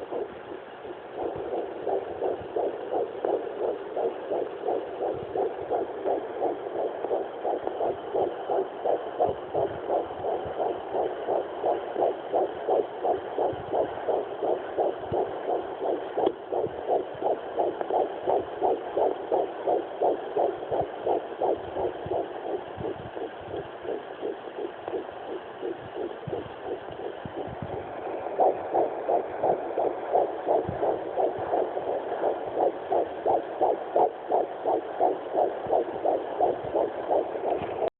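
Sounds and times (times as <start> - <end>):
fetal heartbeat pulse: 0.0 - 37.9.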